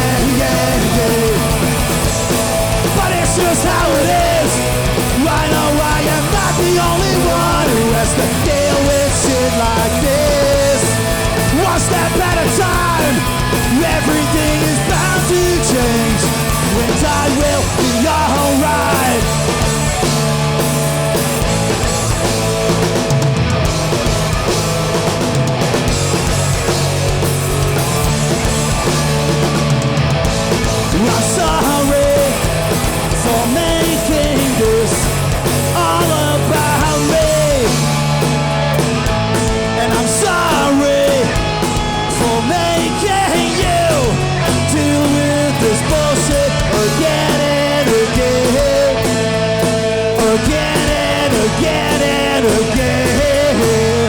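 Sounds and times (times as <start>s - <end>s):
punk band playing: 0.0s - 54.0s.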